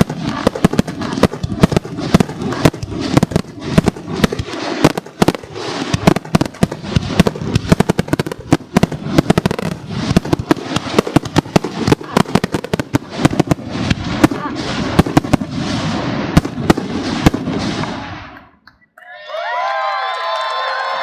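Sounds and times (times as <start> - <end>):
fireworks bangs and bursts: 0.0 - 18.6.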